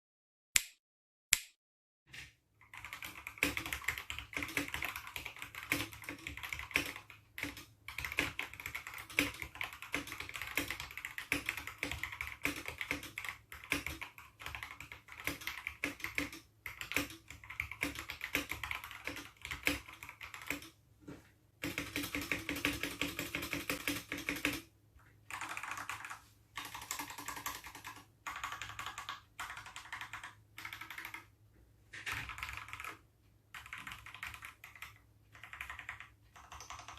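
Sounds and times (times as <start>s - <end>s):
fast typing on mechanical keyboard: 2.6s - 20.8s, 21.6s - 24.7s, 25.3s - 31.3s, 31.9s - 36.9s.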